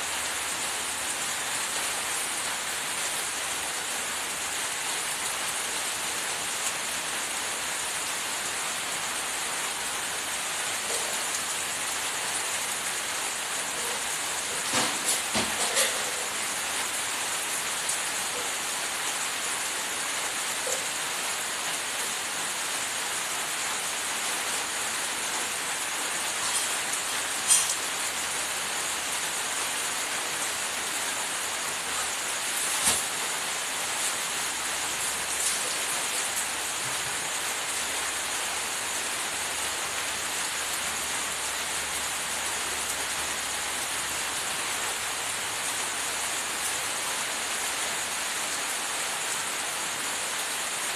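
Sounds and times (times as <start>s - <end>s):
steady hiss: 0.0s - 50.9s.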